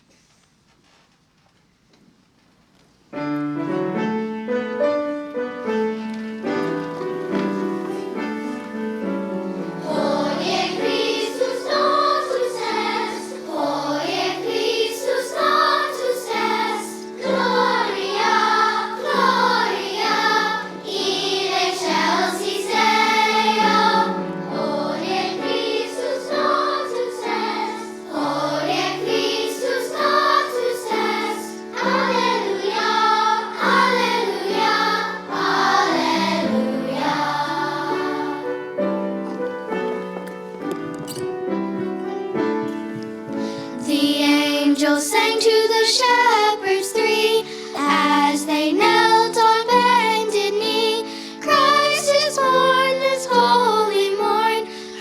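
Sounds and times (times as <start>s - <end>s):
piano accompaniment: 3.1s - 55.0s
children's choir singing carol: 3.2s - 55.0s.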